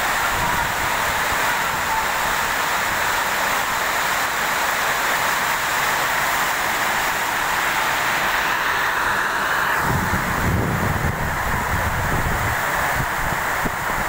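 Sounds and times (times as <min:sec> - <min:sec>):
rain on a metal roof: 0:00.0 - 0:14.0.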